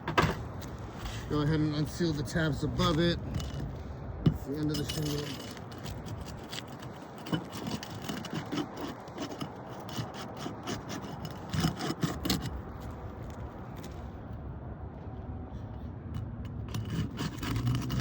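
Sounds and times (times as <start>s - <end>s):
roof shingles scraping and crackling: 0.3s - 14.1s, 16.7s - 18.0s.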